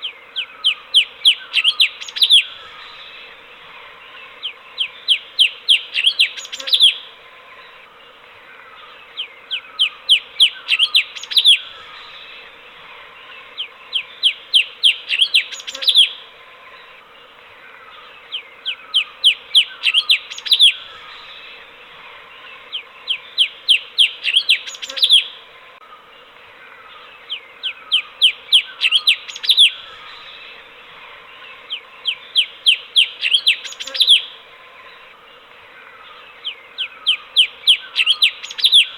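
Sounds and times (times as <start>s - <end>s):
bulbul singing: 0.0s - 25.5s, 26.7s - 35.2s, 35.8s - 38.9s
faint hiss and hum: 0.0s - 38.9s.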